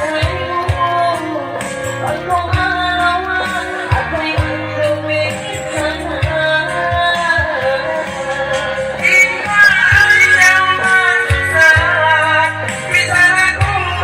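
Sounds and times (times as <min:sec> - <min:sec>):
band backing with bass and drums: 0:00.0 - 0:14.0
person singing: 0:00.0 - 0:14.0.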